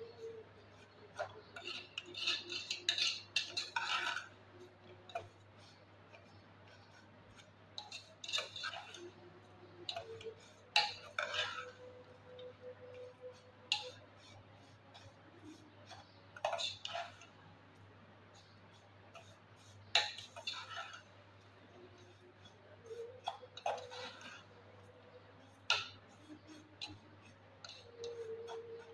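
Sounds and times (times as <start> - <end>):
metal spoon scraping metal pot: 0.0 - 17.3, 18.3 - 28.9.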